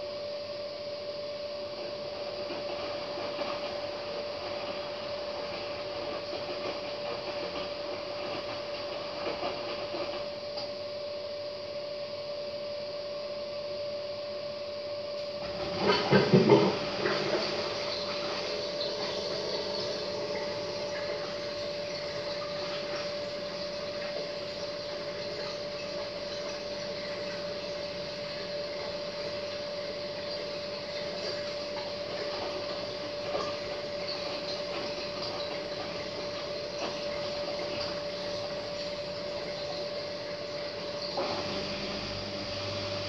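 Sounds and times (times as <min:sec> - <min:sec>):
washing machine running: 0:00.0 - 0:43.0.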